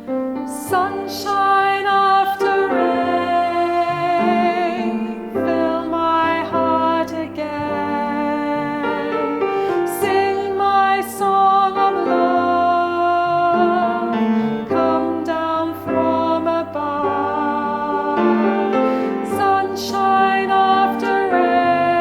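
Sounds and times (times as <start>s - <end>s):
person singing slow song: 0.0s - 22.0s
piano or keyboard accompaniment: 0.0s - 22.0s.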